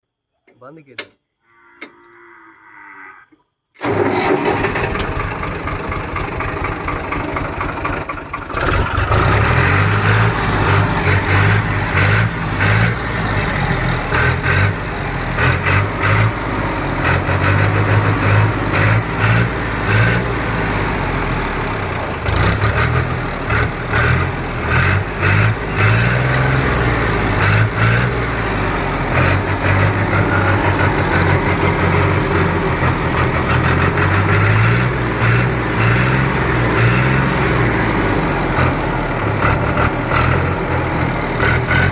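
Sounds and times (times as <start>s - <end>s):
engine running loudly: 3.8s - 41.9s
engine throttle blips: 3.8s - 41.9s.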